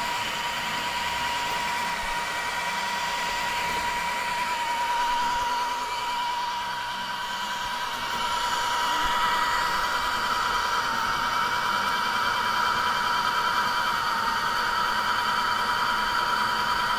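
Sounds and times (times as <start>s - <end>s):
three d printer whirring: 0.0s - 16.9s.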